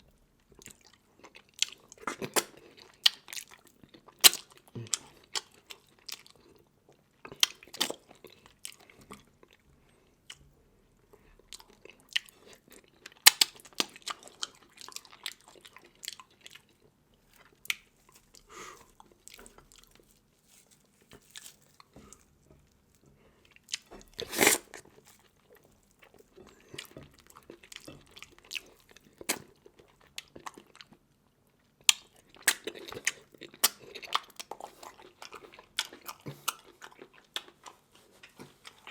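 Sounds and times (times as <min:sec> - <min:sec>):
person chewing and crunching food: 0:00.1 - 0:38.9.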